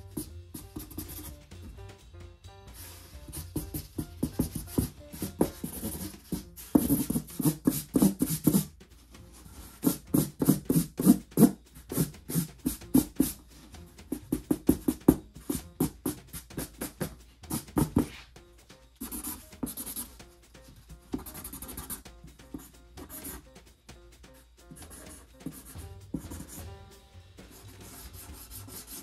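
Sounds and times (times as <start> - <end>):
marker scribbling on cardboard: 0.0 - 1.8, 2.7 - 18.4, 19.0 - 23.6, 24.3 - 26.8, 27.4 - 29.0.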